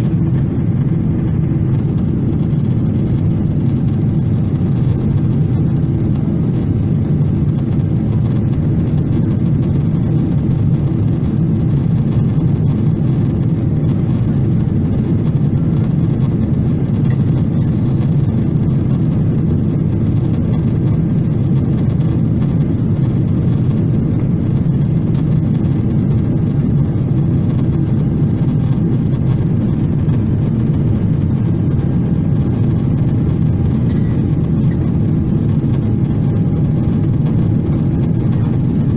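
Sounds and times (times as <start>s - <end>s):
airplane cabin roar: 0.0s - 38.9s.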